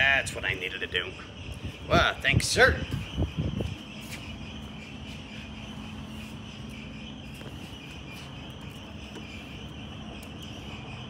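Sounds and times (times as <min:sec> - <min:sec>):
high chirring: 0:00.0 - 0:11.0.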